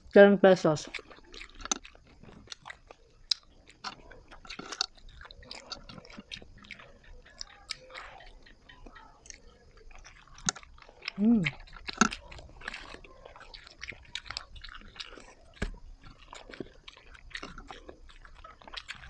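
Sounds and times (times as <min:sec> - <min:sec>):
person chewing food: 0:00.7 - 0:19.0
mouth clicks: 0:00.8 - 0:19.0.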